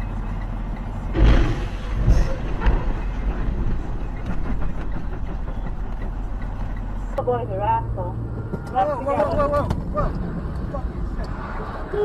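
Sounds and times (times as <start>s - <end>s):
car road noise at speed: 0.0s - 12.0s.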